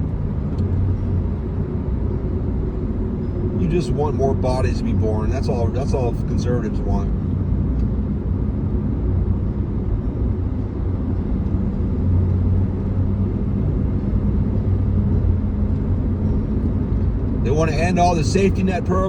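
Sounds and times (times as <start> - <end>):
car engine drone: 0.0 - 19.0
road noise: 0.0 - 19.0.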